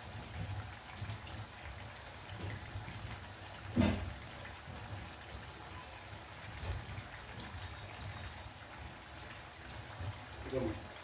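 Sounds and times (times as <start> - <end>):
fritters sizzling in hot oil: 0.0 - 11.0.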